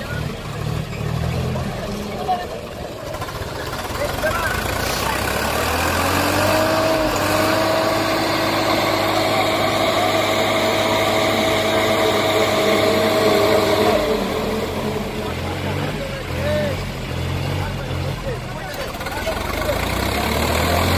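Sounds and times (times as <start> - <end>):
tractor engines running under load: 0.0 - 20.9.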